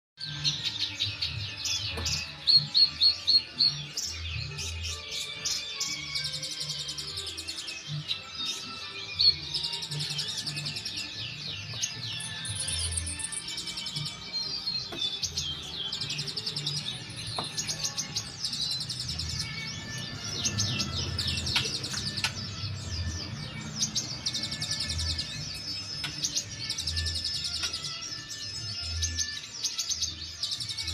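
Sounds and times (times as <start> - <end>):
birds chirping in chorus: 0.2 - 30.9.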